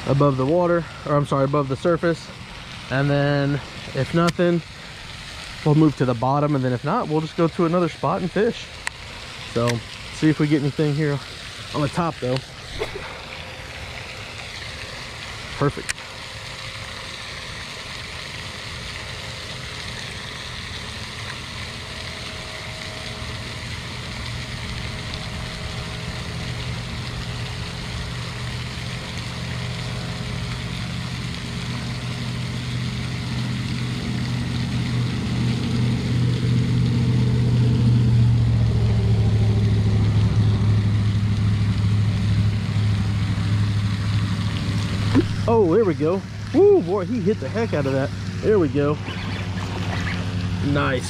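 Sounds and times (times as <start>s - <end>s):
fountain splashing: 0.0s - 51.0s
low engine hum: 0.0s - 51.0s.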